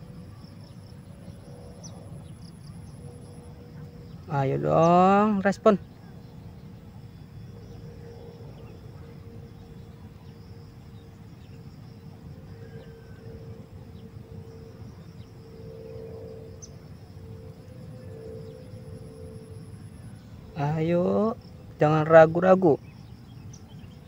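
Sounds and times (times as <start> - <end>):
insects chirring: 0.0 - 24.0
steady hum: 0.0 - 24.0.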